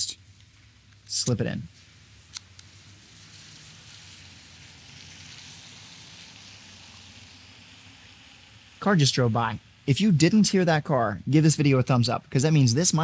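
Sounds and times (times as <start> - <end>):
car passing tyre noise: 1.7 - 13.0.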